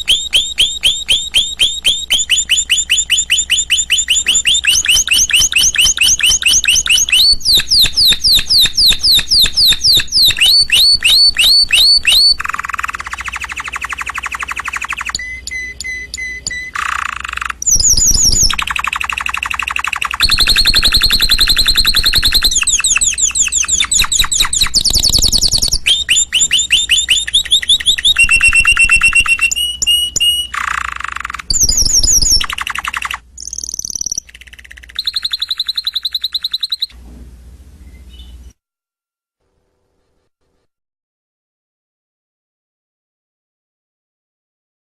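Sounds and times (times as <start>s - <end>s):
canary singing trills: 0.0s - 37.0s, 37.8s - 38.6s.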